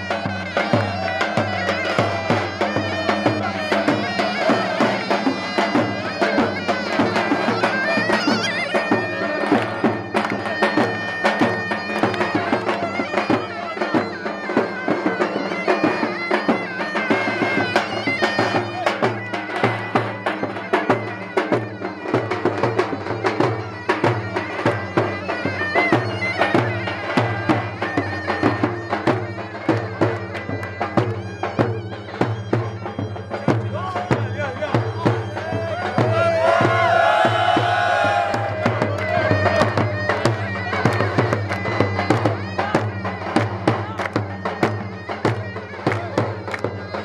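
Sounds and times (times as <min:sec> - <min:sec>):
reedy wind instrument melody: 0:00.0 - 0:47.0.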